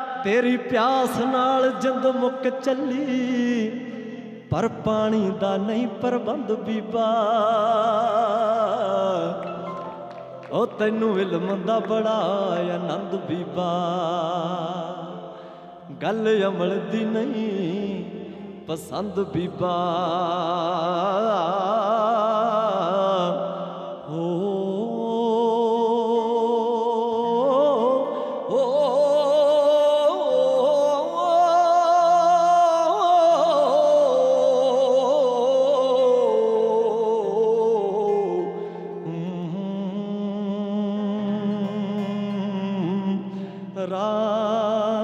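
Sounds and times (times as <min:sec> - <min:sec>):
man singing wordless notes: 0:00.0 - 0:45.0.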